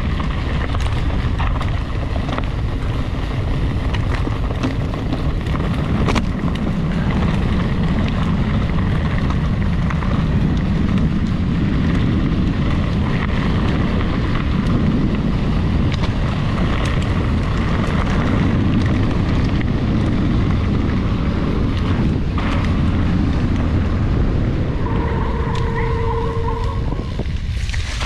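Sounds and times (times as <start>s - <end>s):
bike clicks and knocks: 0.0s - 24.5s
bike tyres rolling on gravel: 0.0s - 28.0s
wind rumble on microphone: 0.0s - 28.0s.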